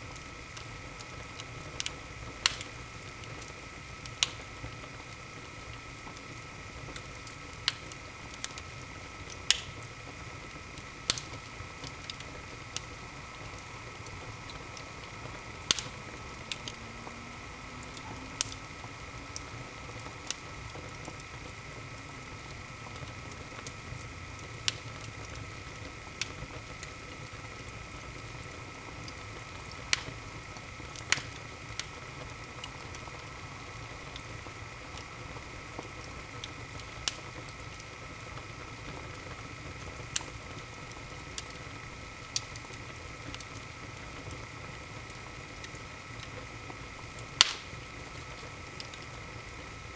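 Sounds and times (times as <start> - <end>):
soft rush of flames: 0.0 - 49.9
wood fire crackling and popping: 0.0 - 49.9.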